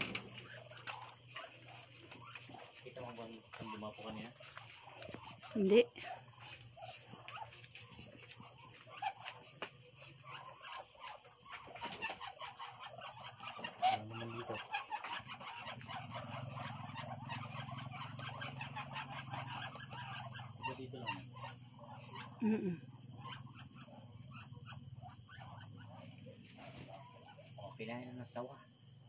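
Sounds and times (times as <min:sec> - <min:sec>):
chicken squawk: 0:00.0 - 0:27.8
chicken clucking: 0:00.0 - 0:27.9.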